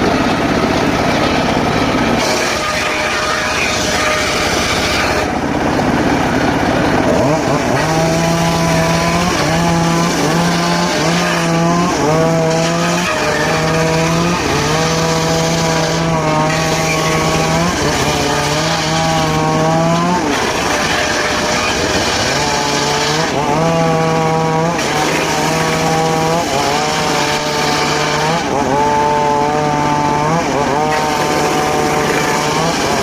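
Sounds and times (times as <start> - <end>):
circular saw cutting wood: 0.0 - 33.0.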